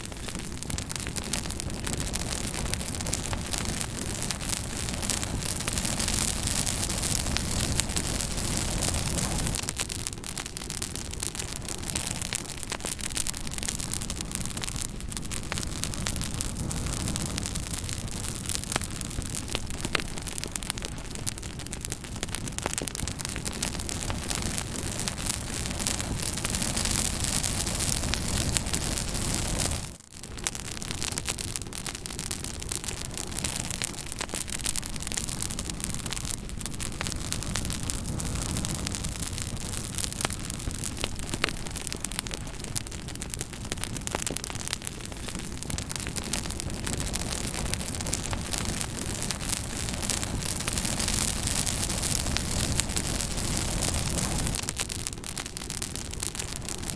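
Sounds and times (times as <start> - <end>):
fire crackling: 0.0 - 56.9.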